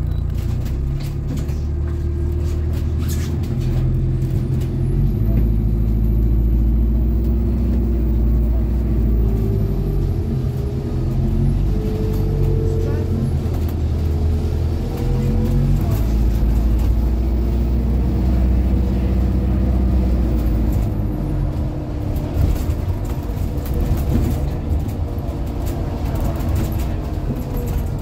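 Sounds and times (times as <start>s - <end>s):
bus engine low rumble: 0.0s - 28.0s
interior rattles and clicks: 0.0s - 28.0s.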